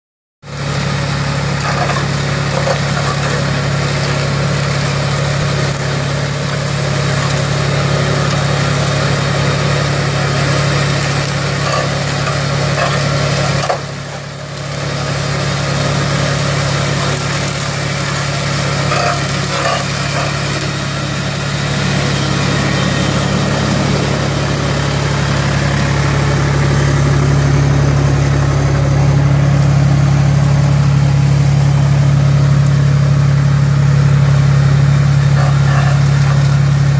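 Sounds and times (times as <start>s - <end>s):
tractor engine running under load: 0.4s - 36.9s.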